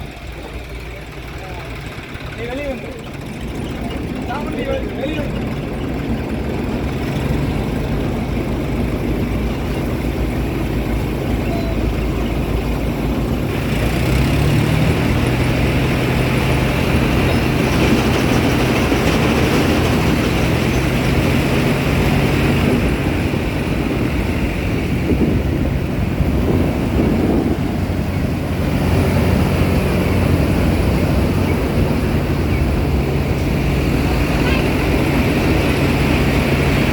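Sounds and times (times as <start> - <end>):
combine harvester running: 0.0 - 36.9.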